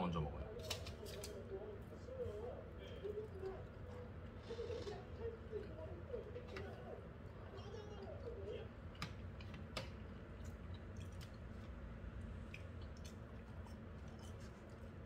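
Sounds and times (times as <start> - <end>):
person chewing fries: 2.3 - 15.0.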